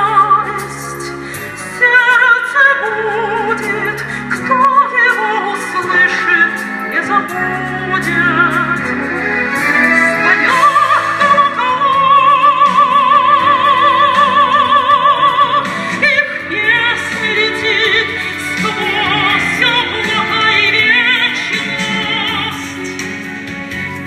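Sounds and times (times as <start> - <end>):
woman singing operatically: 0.0 - 23.0
instrumental accompaniment: 0.0 - 24.0.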